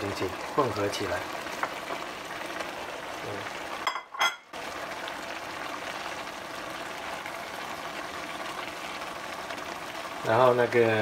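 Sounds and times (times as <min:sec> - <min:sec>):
broth simmering in a frying pan: 0:00.0 - 0:11.0.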